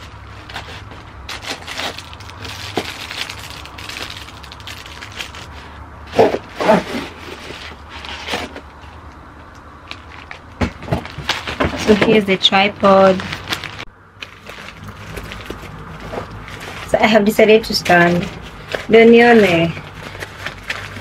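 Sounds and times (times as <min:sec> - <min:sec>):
packaging rustling and crinkling: 0:00.0 - 0:09.0, 0:09.8 - 0:21.0.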